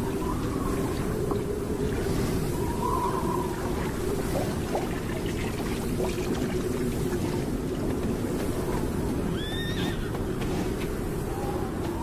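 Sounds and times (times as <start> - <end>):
low wind noise: 0.0 - 12.0.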